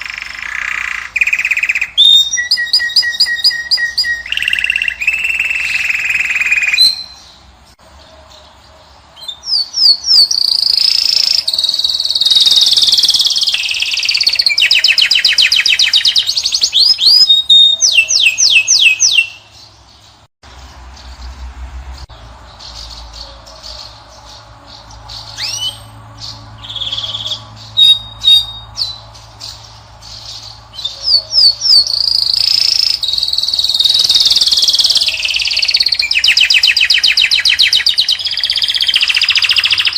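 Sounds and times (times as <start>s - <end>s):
finch chirps and buzzing trills: 0.0s - 39.9s.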